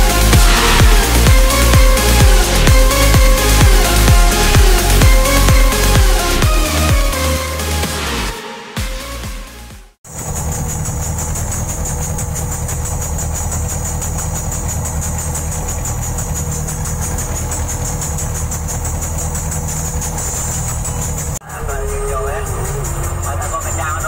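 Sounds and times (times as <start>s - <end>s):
diesel boat engine running: 0.0s - 24.0s.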